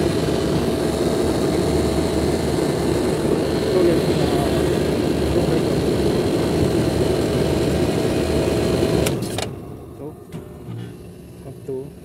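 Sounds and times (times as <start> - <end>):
air conditioning unit running: 0.0 - 12.0.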